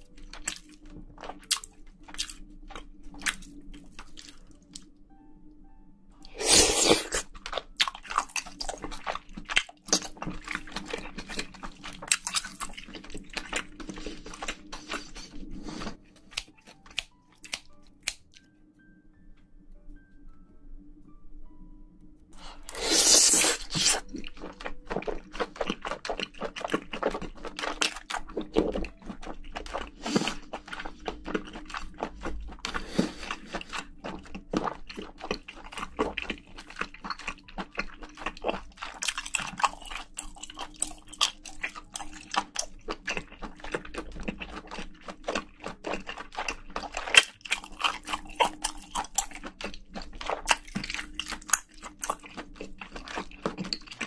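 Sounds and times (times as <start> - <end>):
wet chewing crunches: 0.0 - 4.9, 6.2 - 18.4, 22.4 - 54.0.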